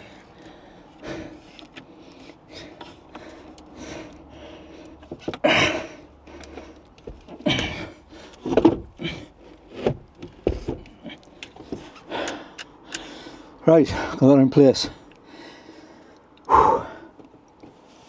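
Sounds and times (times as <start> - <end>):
heavy breathing: 0.0 - 9.8, 10.8 - 14.2, 14.8 - 18.0.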